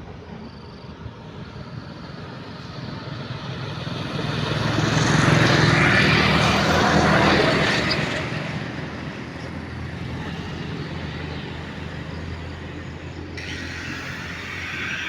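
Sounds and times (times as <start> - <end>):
road noise: 0.0 - 15.0
vehicle engine: 0.0 - 15.0.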